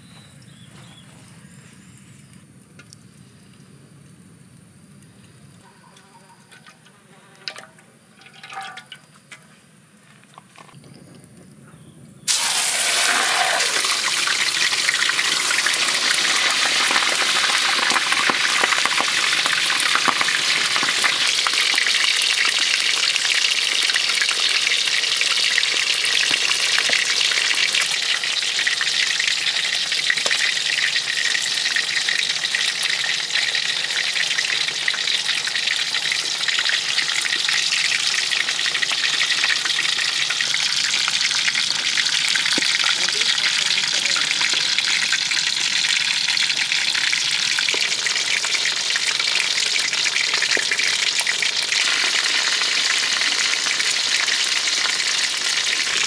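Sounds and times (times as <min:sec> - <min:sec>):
fish deep-frying in hot oil: 0:06.0 - 0:09.3, 0:12.3 - 0:56.0.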